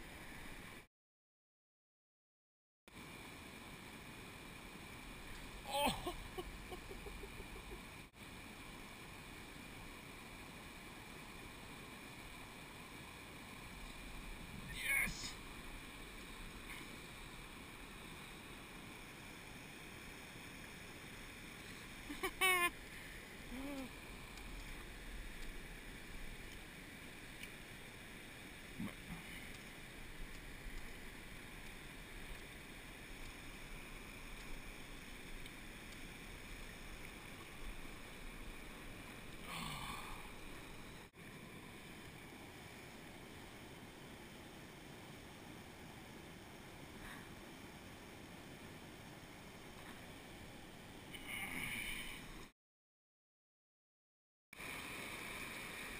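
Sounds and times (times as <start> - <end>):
stream rushing over rocks: 3.0 - 52.4, 54.6 - 55.9.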